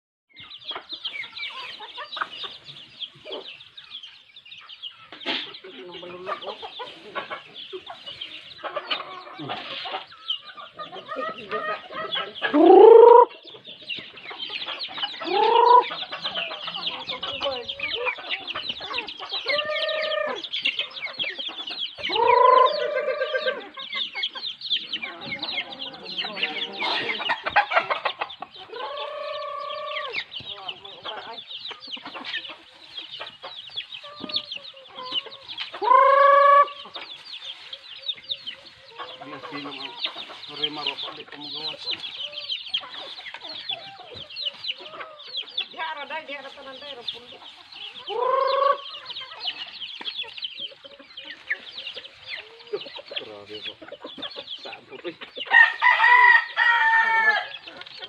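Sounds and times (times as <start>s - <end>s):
chickens clucking: 0.3s - 58.0s
chicken drawn-out calls: 0.4s - 58.0s.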